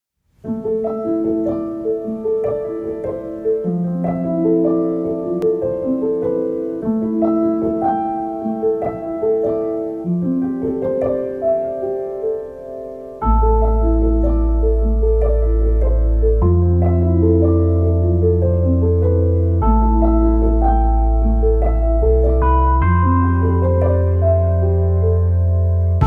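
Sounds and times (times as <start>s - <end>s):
gentle piano music: 0.3s - 26.0s.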